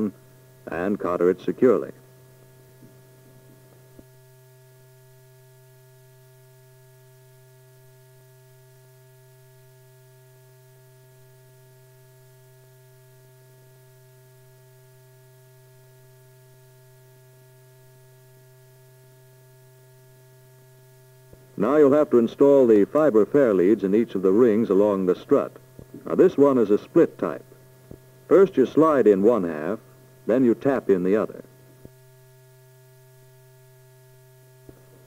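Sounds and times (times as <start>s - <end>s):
electrical hum with hiss: 0.0s - 35.0s.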